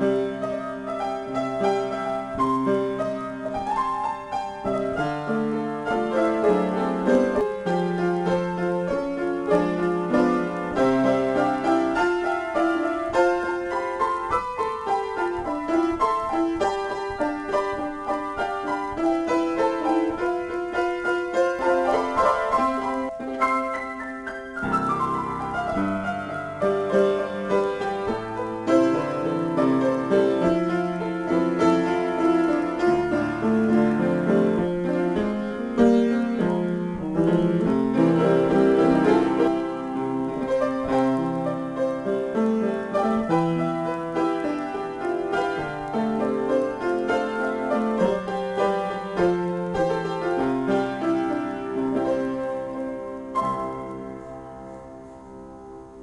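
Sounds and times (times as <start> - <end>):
upright piano improvisation: 0.0 - 56.0.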